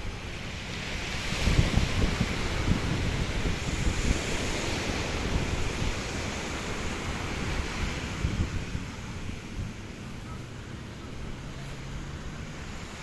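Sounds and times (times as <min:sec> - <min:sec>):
surf washing on sandy beach: 0:00.0 - 0:13.0
wind buffeting microphone: 0:00.0 - 0:13.0.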